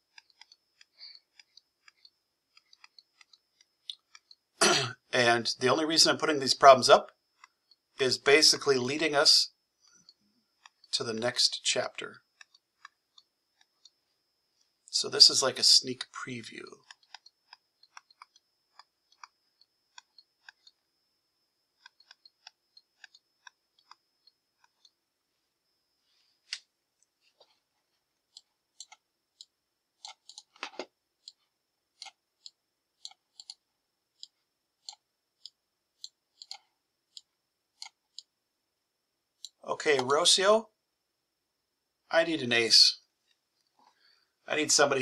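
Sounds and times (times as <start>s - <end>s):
faint high-pitched whine: 0.0s - 45.0s.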